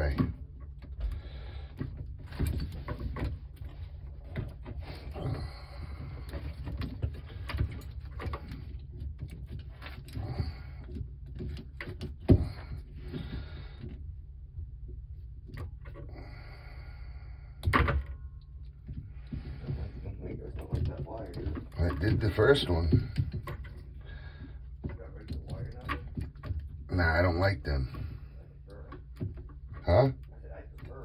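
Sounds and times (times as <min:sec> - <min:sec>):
rustling and scraping of parts: 0:00.0 - 0:16.1, 0:17.6 - 0:31.0.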